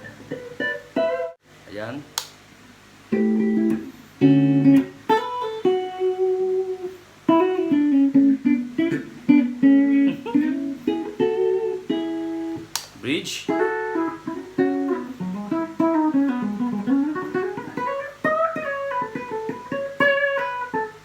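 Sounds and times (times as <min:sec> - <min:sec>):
electric guitar through amplifier: 0:03.1 - 0:21.0.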